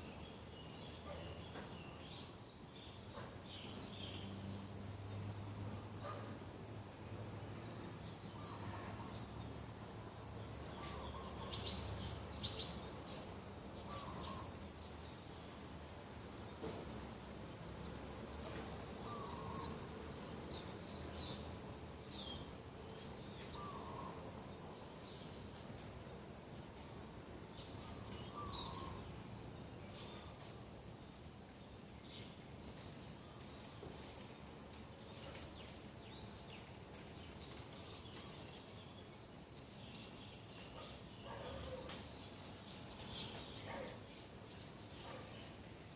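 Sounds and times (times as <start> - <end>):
small birds chirping: 0.0 - 5.3, 7.2 - 45.9
faint background hiss: 0.0 - 45.9.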